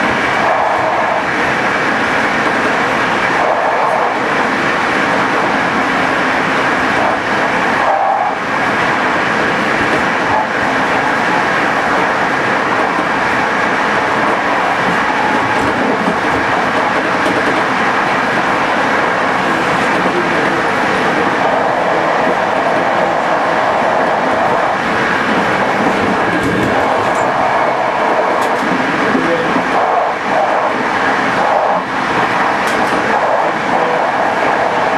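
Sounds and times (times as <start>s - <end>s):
train wheels rolling on rail: 0.0s - 34.9s.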